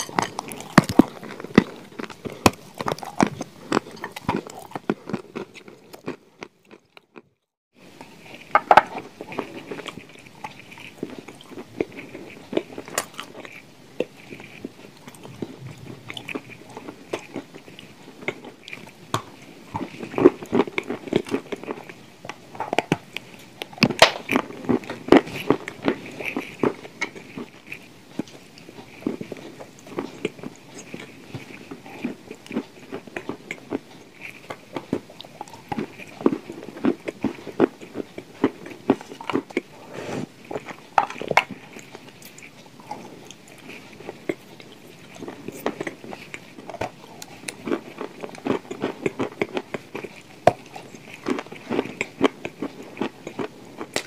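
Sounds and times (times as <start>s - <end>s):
person crunching and chewing: 0.0s - 54.0s.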